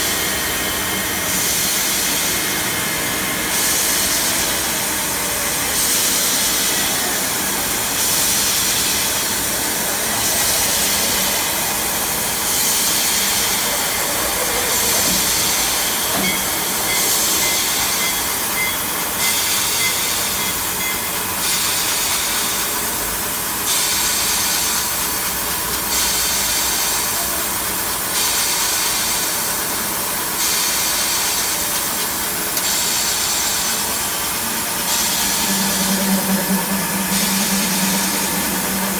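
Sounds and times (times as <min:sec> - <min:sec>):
drilling machine loud hiss: 0:00.0 - 0:38.9.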